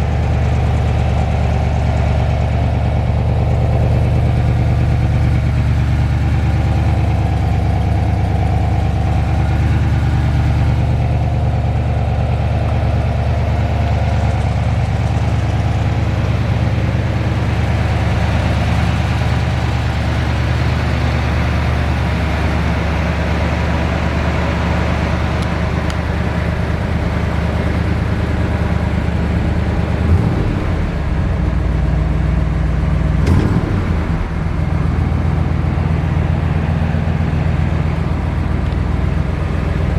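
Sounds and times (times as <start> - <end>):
vee-eight engine running steadily: 0.0 - 39.9.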